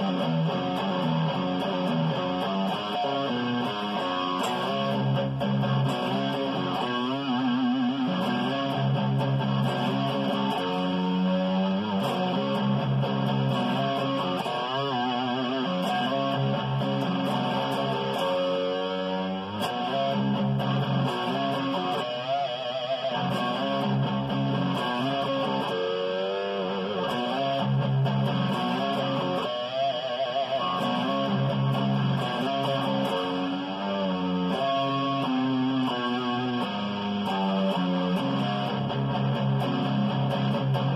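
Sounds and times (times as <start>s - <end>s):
electric guitar lead lines: 0.0s - 40.9s
lower guitar notes pattern: 0.0s - 40.9s.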